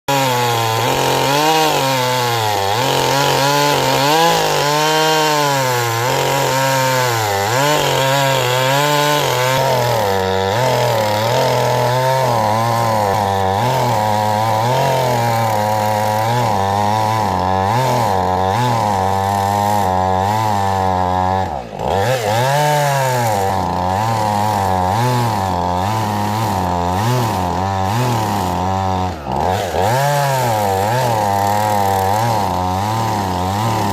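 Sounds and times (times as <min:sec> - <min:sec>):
chainsaw cutting through wood: 0:00.0 - 0:33.9.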